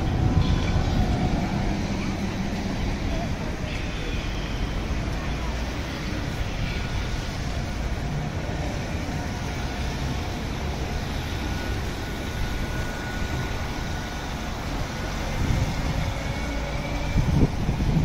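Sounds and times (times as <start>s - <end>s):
moving vehicle noise: 0.0s - 18.0s.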